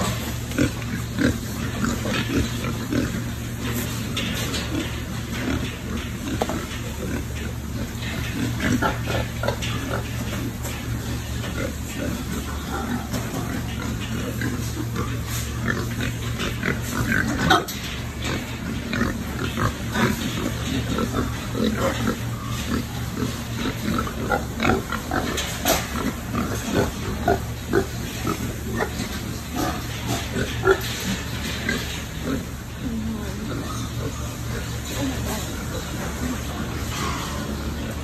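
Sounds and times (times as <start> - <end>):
pigs grunting: 0.0 - 38.0.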